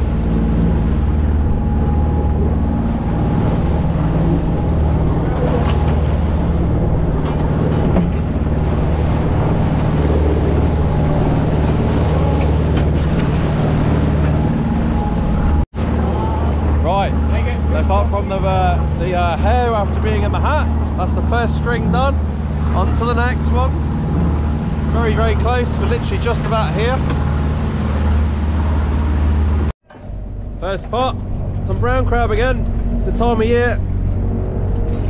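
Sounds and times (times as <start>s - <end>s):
propeller wash churning: 0.0s - 29.7s
boat engine running: 0.0s - 35.0s.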